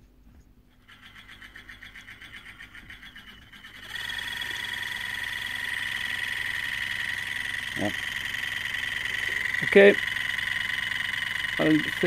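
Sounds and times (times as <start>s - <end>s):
low mains hum: 0.0s - 12.0s
fan motor running: 0.7s - 12.0s
fast rhythmic scraping: 0.8s - 12.0s
high-pitched whine: 0.8s - 12.0s.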